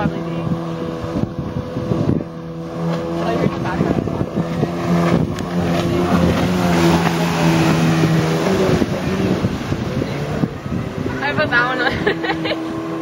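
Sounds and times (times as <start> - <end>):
watercraft engine running: 0.0 - 13.0.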